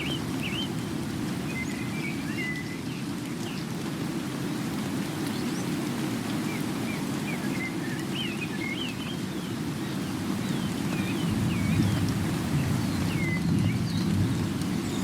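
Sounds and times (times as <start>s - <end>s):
small birds chirping: 0.0s - 3.8s, 5.0s - 15.0s
rain rushing: 0.0s - 15.0s.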